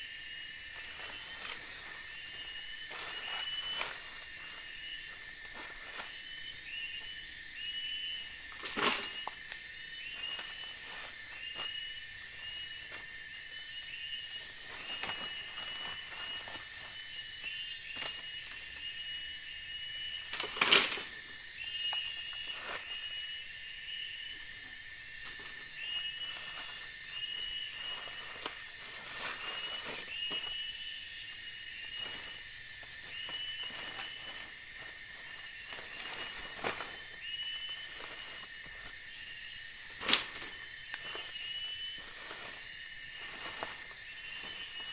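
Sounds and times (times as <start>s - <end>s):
insects buzzing: 0.0s - 44.9s.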